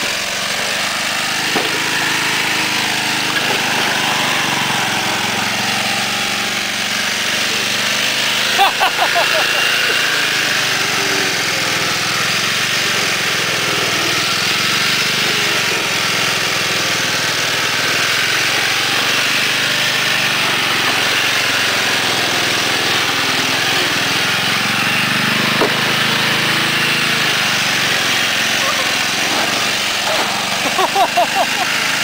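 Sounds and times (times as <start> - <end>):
lawn tractor engine running: 0.0 - 32.0.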